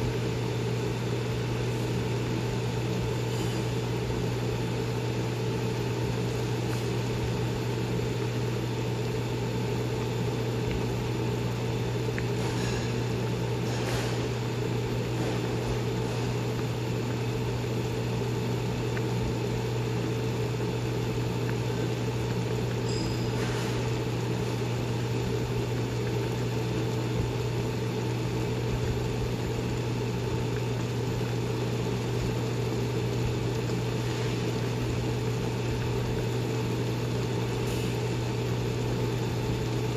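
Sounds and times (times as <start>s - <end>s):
low machine hum: 0.0s - 39.9s
pot boiling on a stove: 0.0s - 39.9s.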